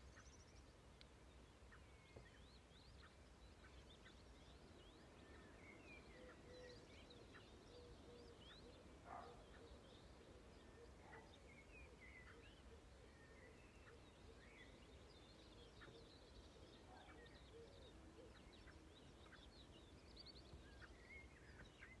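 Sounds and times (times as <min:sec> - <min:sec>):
small birds chirping and trilling: 0:00.0 - 0:22.0.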